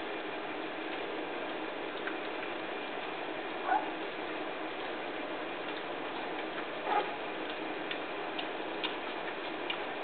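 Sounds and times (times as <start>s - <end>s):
puppies lapping and smacking: 0.6s - 10.0s.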